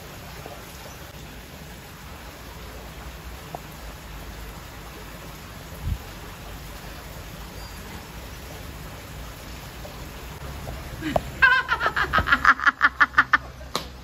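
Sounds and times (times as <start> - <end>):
outdoor hiss with low rumble: 0.0 - 14.0.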